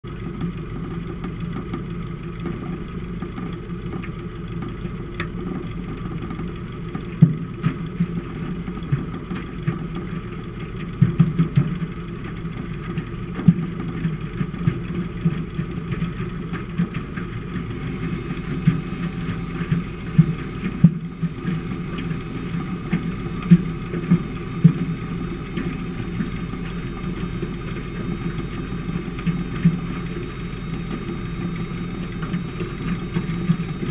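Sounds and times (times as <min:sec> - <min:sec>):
seaplane engine running: 0:00.0 - 0:33.9.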